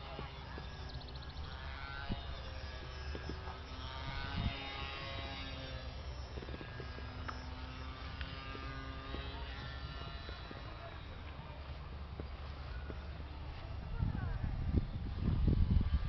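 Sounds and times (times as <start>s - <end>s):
model plane electric motor buzzing: 0.0s - 16.0s.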